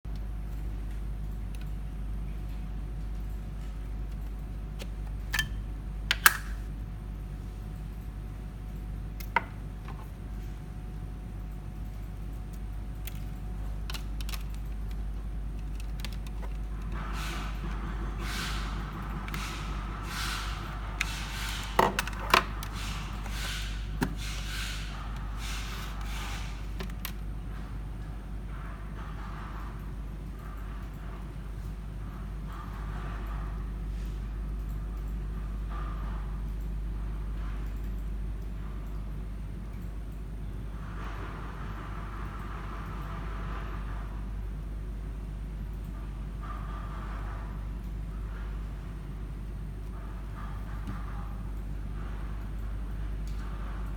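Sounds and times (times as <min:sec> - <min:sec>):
steady low hum: 0:00.1 - 0:53.9.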